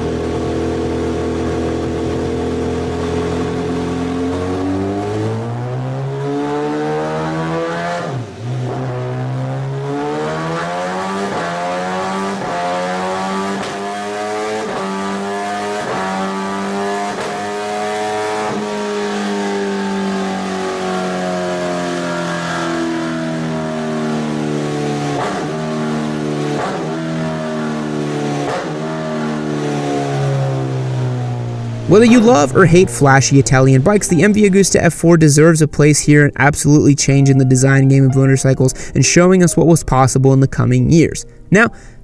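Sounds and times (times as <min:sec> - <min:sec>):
motorcycle engine revving: 0:00.0 - 0:34.2.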